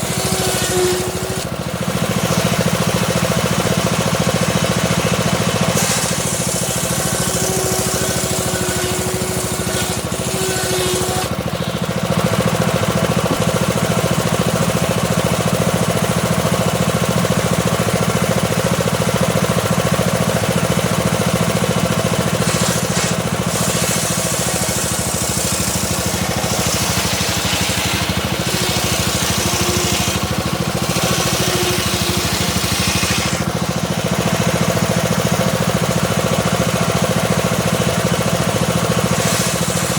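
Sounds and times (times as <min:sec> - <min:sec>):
circular saw droning: 0:00.0 - 0:39.9
saw blade cutting log: 0:00.0 - 0:39.9.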